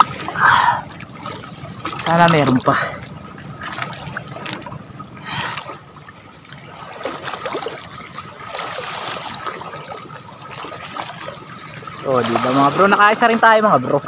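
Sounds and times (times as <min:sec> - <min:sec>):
shallow water sloshing and splashing: 0:00.0 - 0:14.0.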